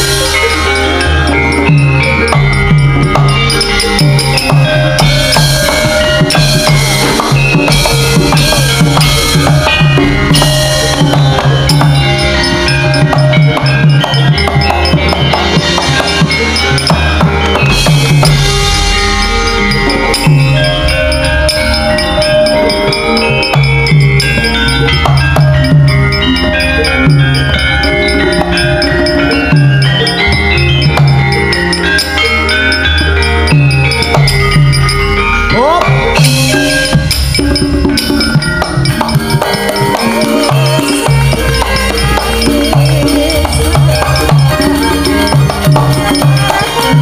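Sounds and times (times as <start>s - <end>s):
drumming steady beat: 0.0s - 47.0s
ringing metallophone melody: 0.0s - 47.0s.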